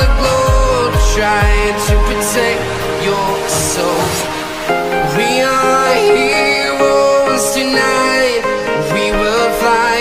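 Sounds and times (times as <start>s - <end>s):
pop music: 0.0s - 10.0s.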